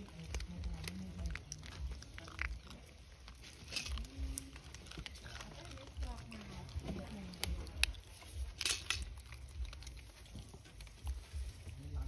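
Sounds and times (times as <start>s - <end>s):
monkey chewing grains: 0.0s - 12.0s.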